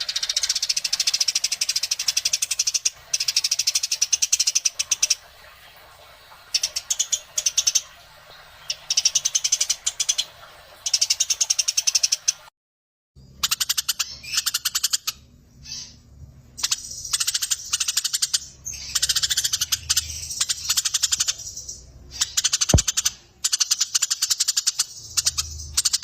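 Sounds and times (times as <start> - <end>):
sparrows chirping: 0.0 - 12.5, 13.2 - 26.0.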